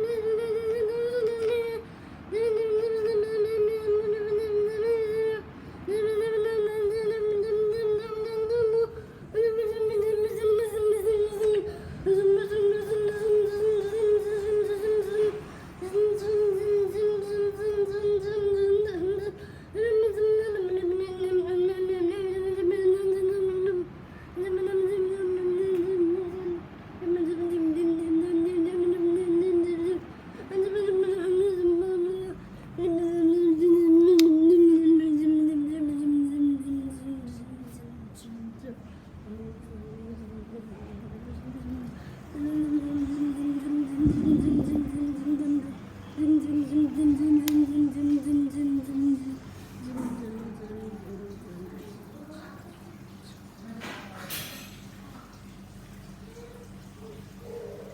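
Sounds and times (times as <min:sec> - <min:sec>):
ceiling fan whining: 0:00.0 - 0:57.9.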